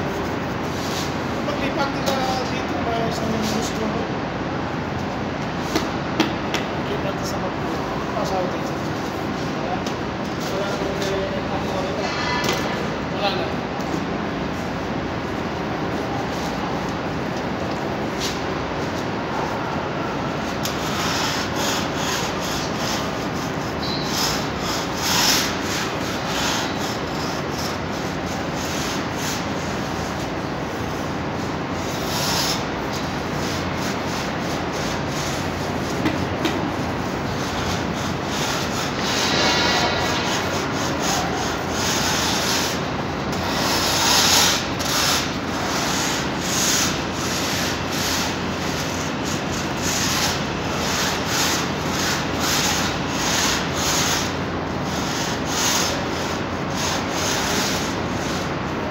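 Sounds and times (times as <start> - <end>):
steady background noise: 0.0 - 58.9
paint rollers swishing on ceiling: 8.1 - 58.9.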